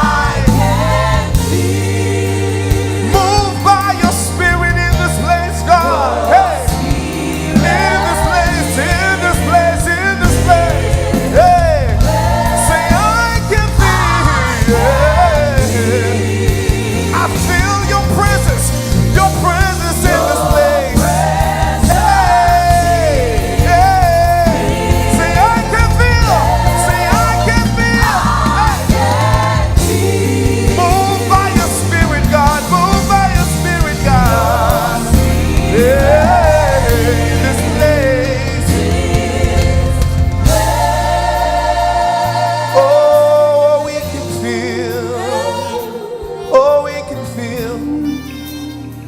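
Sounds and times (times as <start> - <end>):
choir singing: 0.0 - 47.9
bass: 0.0 - 49.0
gospel band playing: 0.0 - 49.0
keyboard: 0.0 - 49.0.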